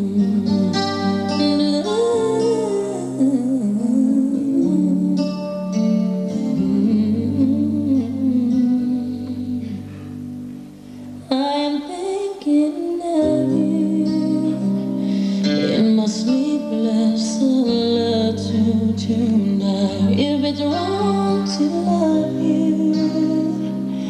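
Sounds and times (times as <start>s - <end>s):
woman singing: 0.0s - 10.3s, 11.2s - 24.0s.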